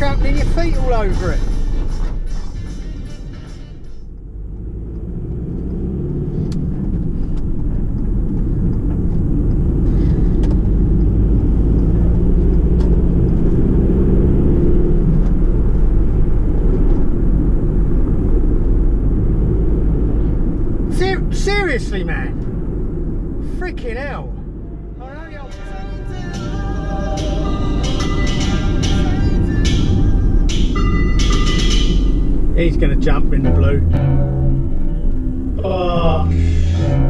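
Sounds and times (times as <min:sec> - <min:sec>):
van engine and road noise: 0:00.0 - 0:37.0.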